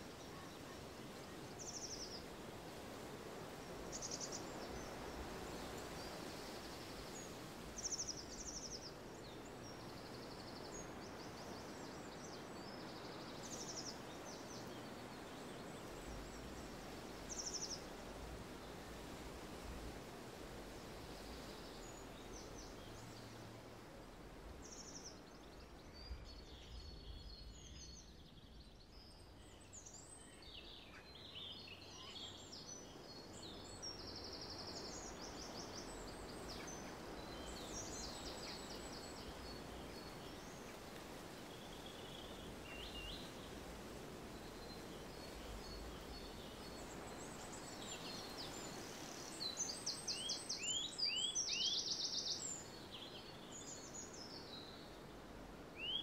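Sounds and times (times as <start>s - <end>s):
faint background hiss: 0.0s - 56.0s
small birds chirping: 3.4s - 20.0s, 20.6s - 56.0s.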